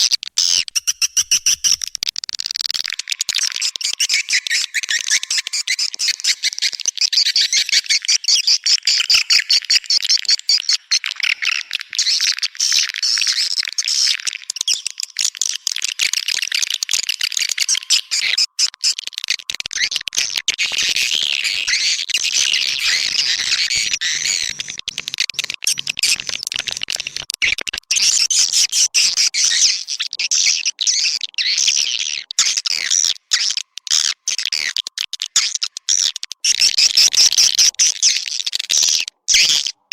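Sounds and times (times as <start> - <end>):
swiftlets twittering and chirping: 0.0 - 9.4, 11.6 - 39.9.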